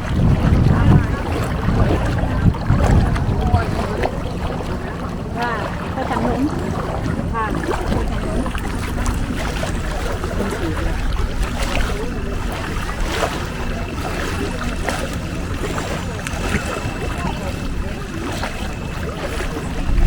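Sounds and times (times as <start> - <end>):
boat engine droning: 0.0 - 20.0
faint voices: 0.0 - 20.0.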